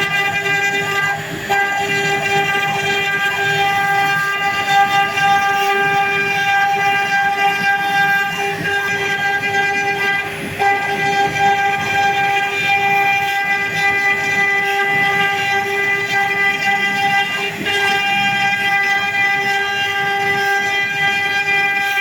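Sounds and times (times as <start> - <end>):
router spindle whining: 0.0 - 22.0.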